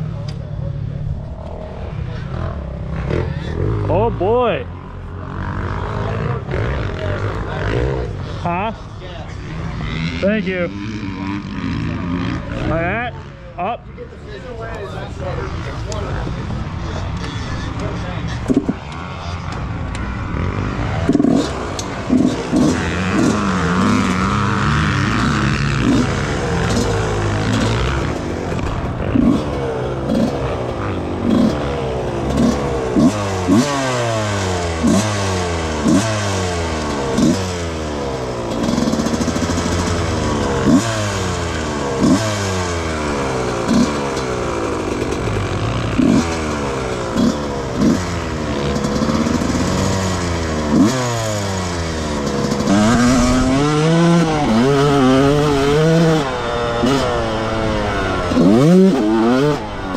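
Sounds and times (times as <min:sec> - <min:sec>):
two-stroke engine revving: 0:01.4 - 0:08.6, 0:09.5 - 0:13.2, 0:15.3 - 0:59.9.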